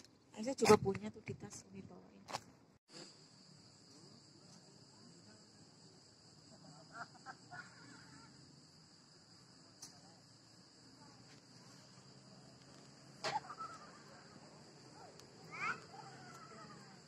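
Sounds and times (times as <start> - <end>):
crickets droning: 2.4 - 17.0.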